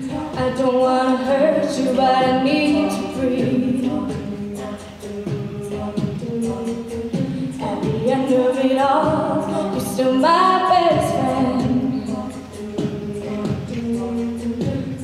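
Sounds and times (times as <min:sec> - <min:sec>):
a cappella group singing: 0:00.0 - 0:15.0
vocal percussion beat: 0:00.0 - 0:15.0.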